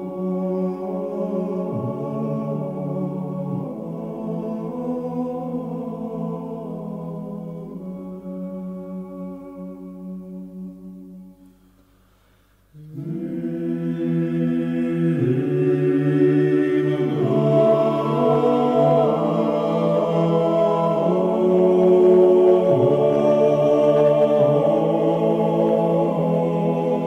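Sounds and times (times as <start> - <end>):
vocal chanting in held notes: 0.0 - 27.0.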